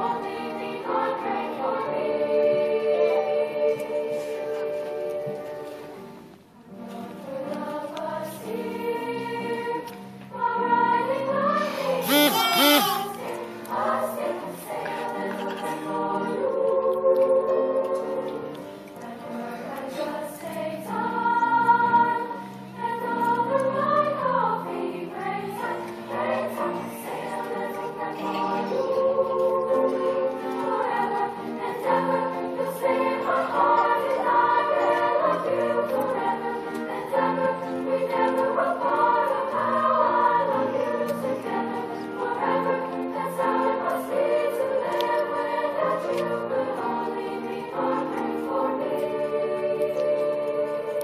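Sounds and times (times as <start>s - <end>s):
girls' choir singing: 0.0s - 4.7s, 7.2s - 18.2s, 19.1s - 51.0s.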